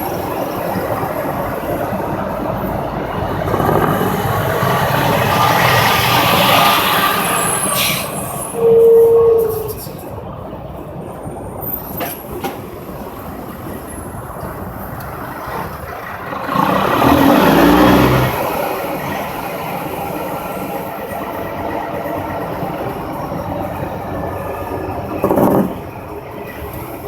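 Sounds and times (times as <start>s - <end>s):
highway traffic: 0.0s - 27.0s
truck passing: 0.0s - 27.0s.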